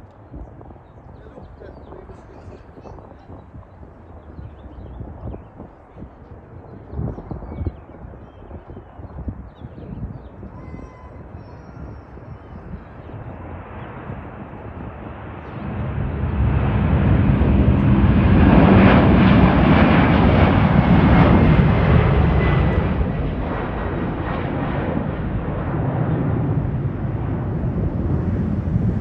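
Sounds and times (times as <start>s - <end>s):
jet engine rumble with whine: 0.0s - 29.0s.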